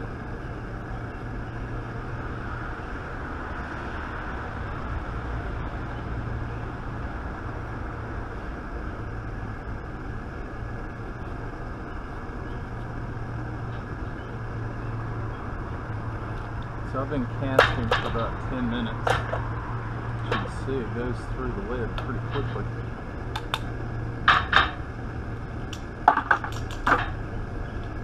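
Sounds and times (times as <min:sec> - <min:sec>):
low mechanical hum and rumble: 0:00.0 - 0:28.0.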